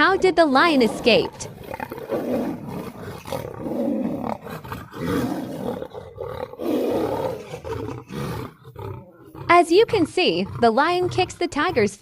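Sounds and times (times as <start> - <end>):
big cats roaring: 0.0 - 12.0.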